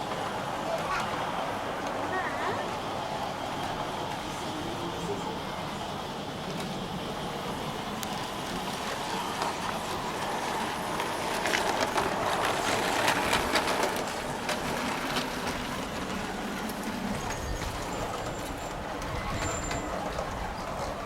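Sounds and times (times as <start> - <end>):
model train rumbling on track: 0.0 - 21.0.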